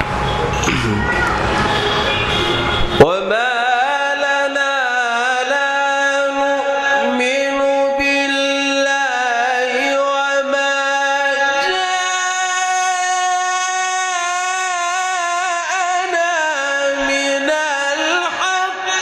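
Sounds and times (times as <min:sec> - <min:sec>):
man chanting melodic recitation: 0:03.0 - 0:19.0.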